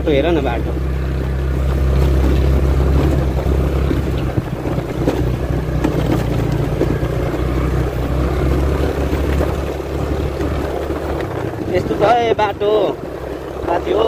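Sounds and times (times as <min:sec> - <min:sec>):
motorbike engine running: 0:00.0 - 0:14.0
wind on microphone: 0:01.7 - 0:13.2.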